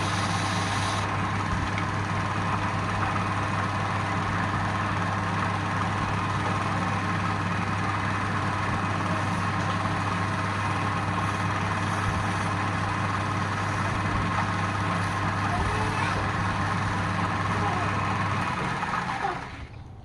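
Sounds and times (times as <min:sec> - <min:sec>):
wood lathe running: 0:00.0 - 0:19.8.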